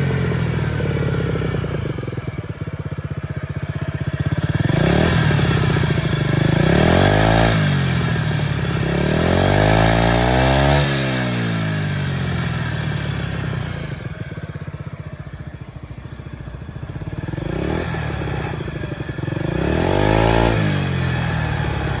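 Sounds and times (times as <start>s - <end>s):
scooter engine revving: 0.0s - 22.0s.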